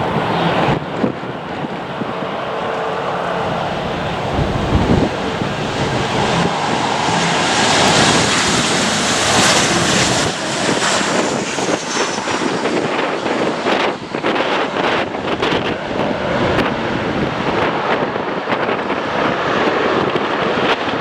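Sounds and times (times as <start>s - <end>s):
jet engines running loud: 0.0s - 21.0s
wind buffeting microphone: 0.0s - 21.0s.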